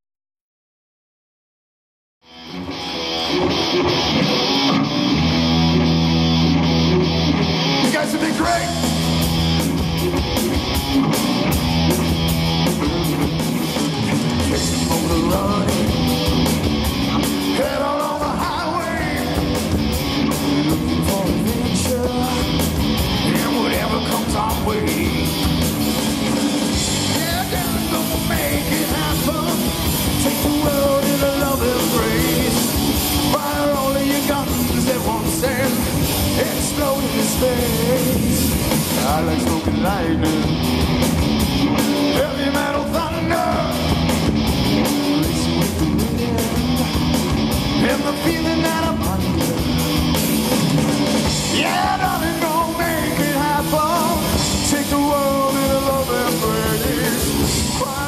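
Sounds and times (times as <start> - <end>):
rock song with singing: 2.4 - 58.0.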